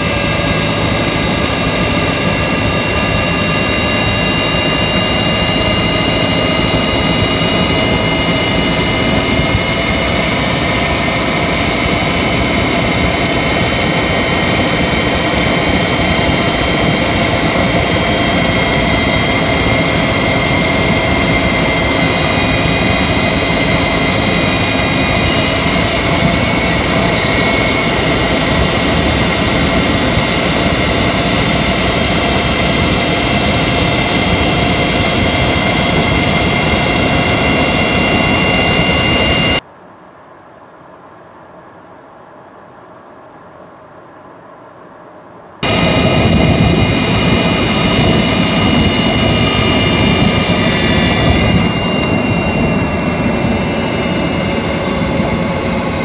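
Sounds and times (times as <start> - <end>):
car engine running: 0.0 - 39.6, 45.6 - 56.0
high-pitched electric whine: 0.0 - 39.7, 45.6 - 56.0.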